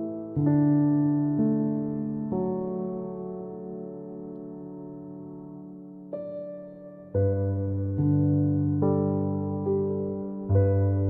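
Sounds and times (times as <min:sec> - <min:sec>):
slow keyboard chords: 0:00.0 - 0:11.0.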